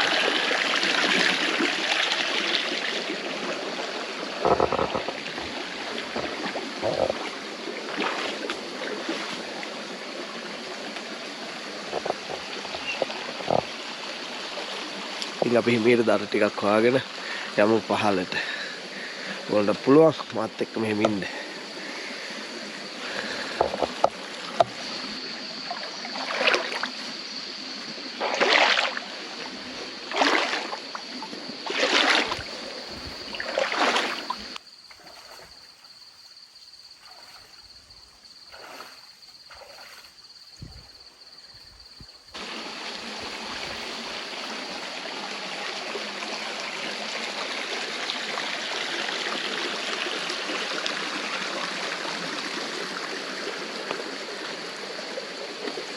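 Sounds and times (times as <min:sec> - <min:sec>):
stream rushing: 0:00.0 - 0:35.7, 0:42.3 - 0:55.9
water splashing: 0:00.0 - 0:36.2, 0:36.9 - 0:55.9
high insect drone: 0:00.0 - 0:55.9.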